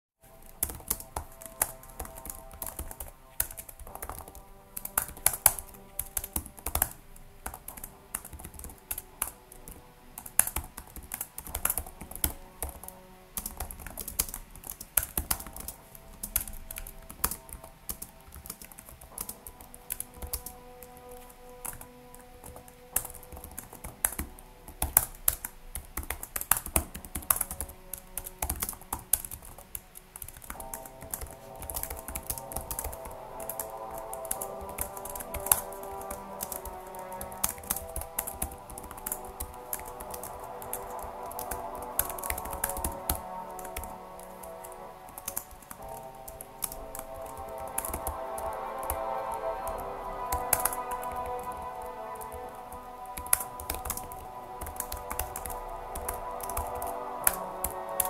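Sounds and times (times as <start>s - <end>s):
background music: 0.0s - 58.0s
computer keyboard typing: 0.3s - 58.0s.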